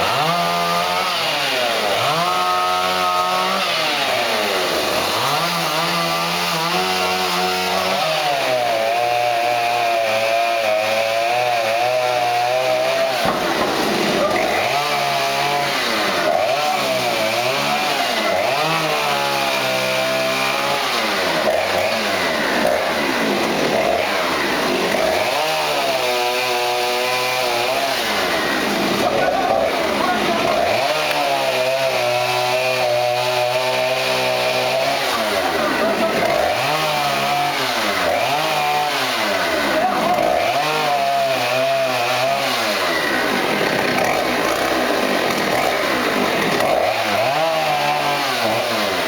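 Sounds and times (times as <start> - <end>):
chainsaw revving through wood: 0.0 - 49.0.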